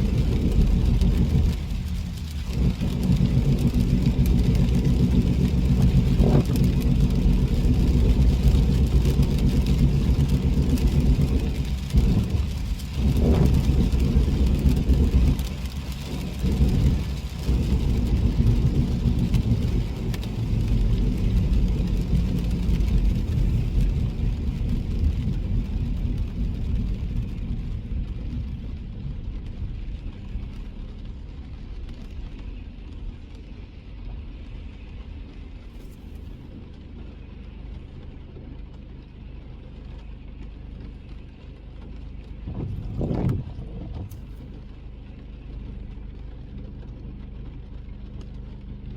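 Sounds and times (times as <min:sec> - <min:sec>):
car driving on wet road: 0:00.0 - 0:48.9.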